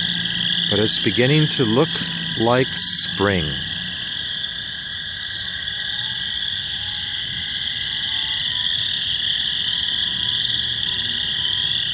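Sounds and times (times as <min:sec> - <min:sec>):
high-pitched frog calls: 0:00.0 - 0:11.9
lower frog calls: 0:00.0 - 0:11.9.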